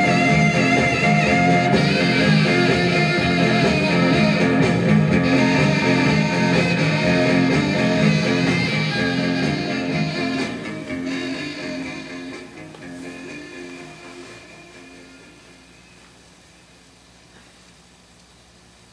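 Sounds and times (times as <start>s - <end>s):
guitar music from record player: 0.0s - 16.2s.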